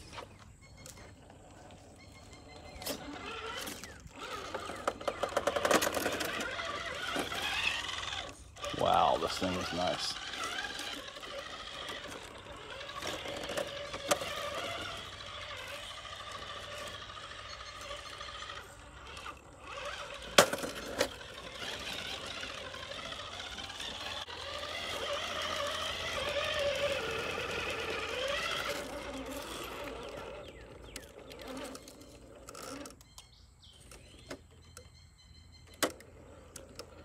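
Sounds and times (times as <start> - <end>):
electric motor and gears whining: 0.0 - 37.0.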